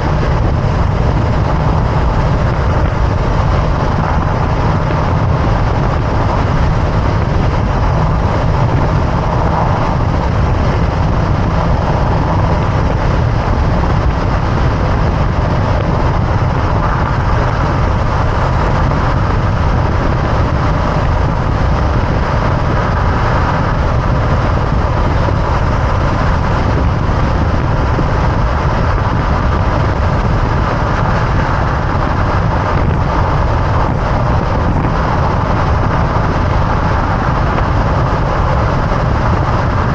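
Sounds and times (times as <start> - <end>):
air rushing past: 0.0 - 39.9.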